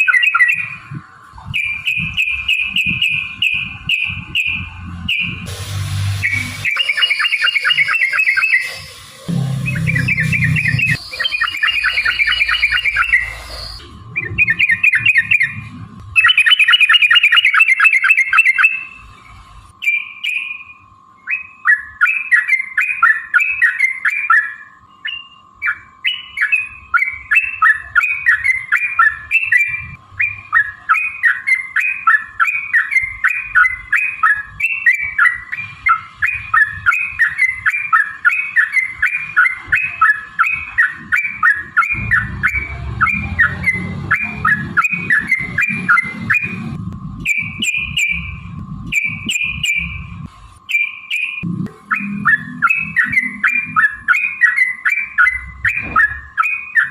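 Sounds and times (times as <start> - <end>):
bird singing chattering song: 0.0 - 5.5, 6.2 - 56.9.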